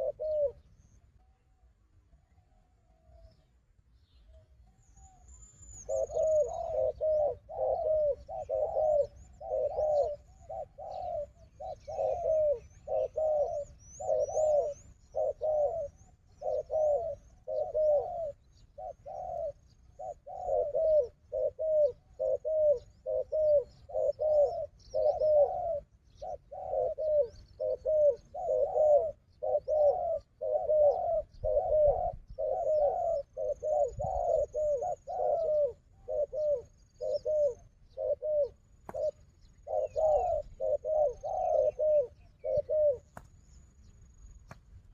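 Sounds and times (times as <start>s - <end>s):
dove cooing: 0.0s - 3.6s, 4.2s - 43.4s
small birds chirping: 2.2s - 44.9s.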